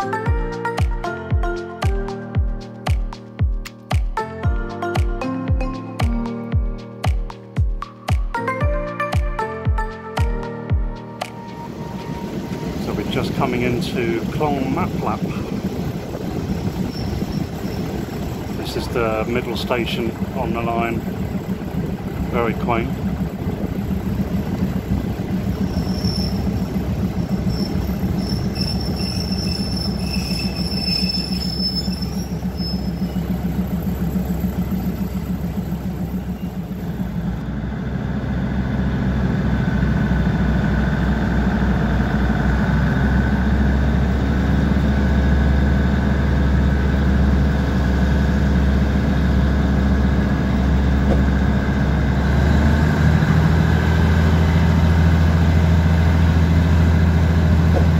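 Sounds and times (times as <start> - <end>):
diesel train engine running: 11.0 - 57.9.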